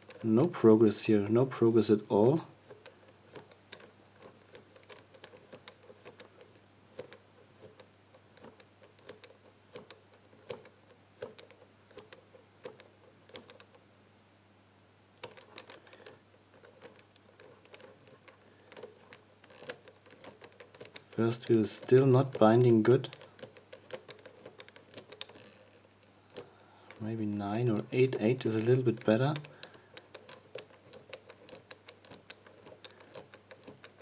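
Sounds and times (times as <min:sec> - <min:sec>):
combination lock wheels clicking: 0:00.0 - 0:13.8, 0:15.2 - 0:34.0.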